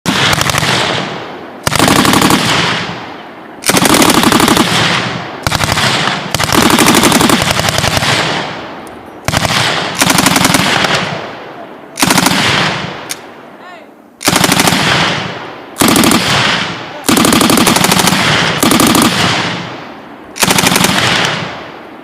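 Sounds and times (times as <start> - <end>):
machine gun firing bursts: 0.1 - 3.0, 3.6 - 8.6, 9.2 - 11.2, 12.0 - 13.1, 14.2 - 19.8, 20.4 - 21.7
rolling echo of gunfire: 0.1 - 13.4, 14.2 - 22.0.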